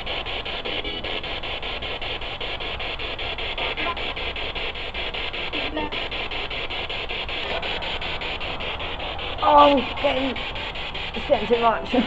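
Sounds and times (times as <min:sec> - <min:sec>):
pulsing radio static: 0:00.0 - 0:12.0
snatches of broadcast sound: 0:00.0 - 0:12.0.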